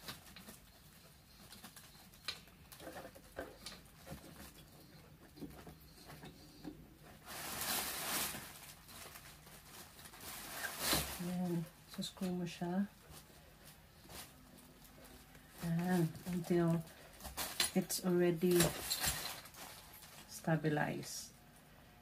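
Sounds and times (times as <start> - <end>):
handling rustle: 0.0 - 20.6.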